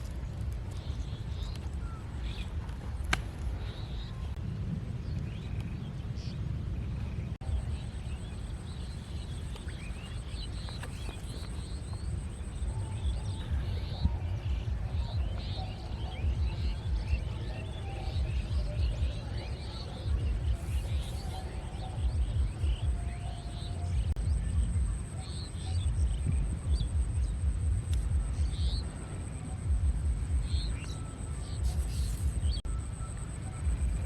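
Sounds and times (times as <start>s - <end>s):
low rumbling noise: 0.0s - 34.0s.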